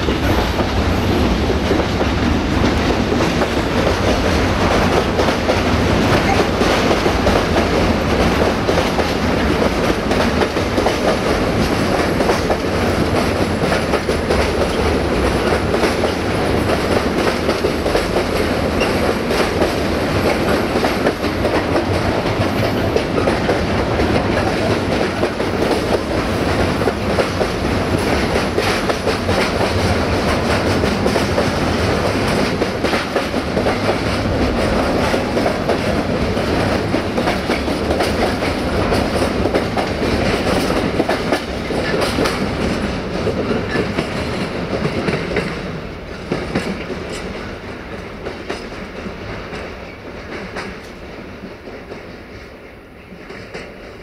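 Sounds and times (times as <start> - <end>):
rumble of wheels on rail: 0.0 - 54.0
train wheels clicking over rail joints: 0.0 - 54.0.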